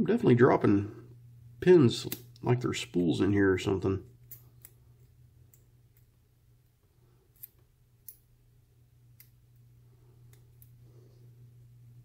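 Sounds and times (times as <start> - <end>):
low hum: 0.3 - 12.0.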